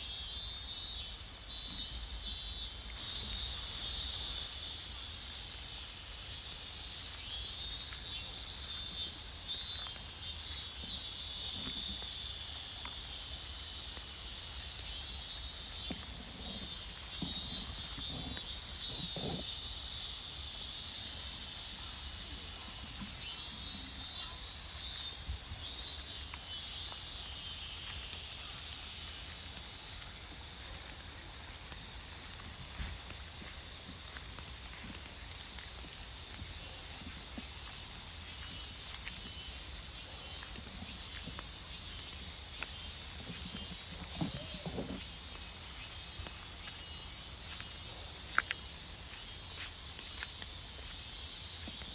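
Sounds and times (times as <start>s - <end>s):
insects chirping and trilling: 0.0s - 51.9s.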